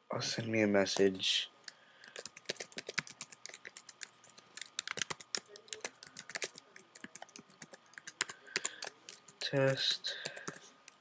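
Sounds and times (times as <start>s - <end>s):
keyboard typing: 2.0s - 11.0s.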